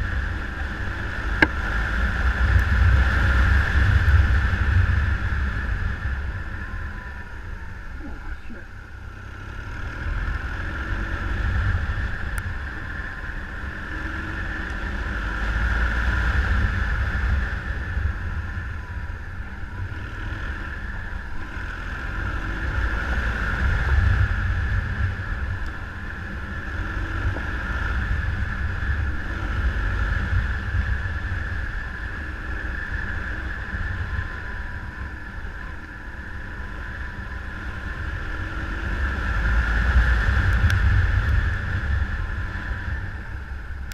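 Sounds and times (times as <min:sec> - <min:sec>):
motorcycle engine rumble: 0:00.0 - 0:43.9
wind rushing over microphone: 0:00.0 - 0:43.9.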